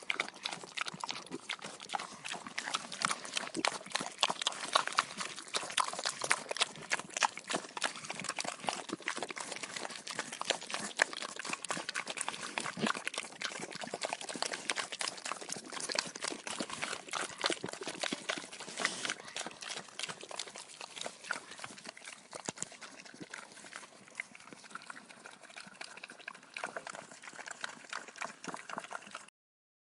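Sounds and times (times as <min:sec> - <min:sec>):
pigs chewing and smacking: 0:00.0 - 0:29.3.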